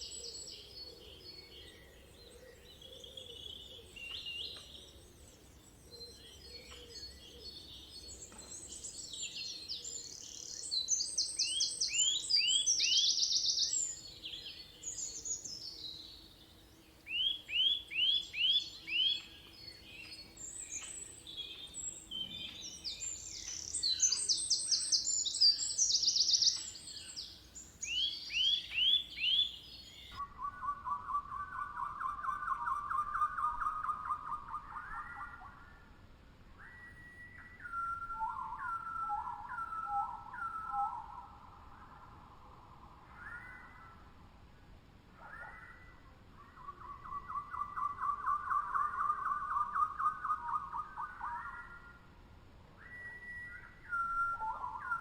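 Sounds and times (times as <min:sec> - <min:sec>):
birds singing and calling: 0:00.0 - 0:35.9, 0:36.6 - 0:44.2, 0:45.2 - 0:52.1, 0:52.8 - 0:55.0.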